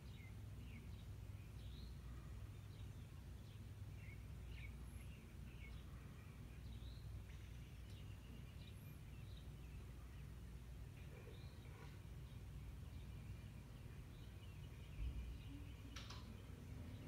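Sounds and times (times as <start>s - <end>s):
low steady rumble: 0.0s - 17.0s
songbirds chirping and whistling: 0.0s - 17.0s.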